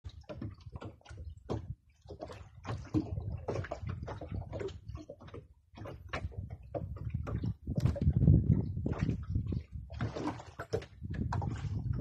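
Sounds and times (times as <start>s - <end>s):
water slapping against boat hull: 0.0s - 12.0s
low rumble of wind and swell: 0.1s - 12.0s.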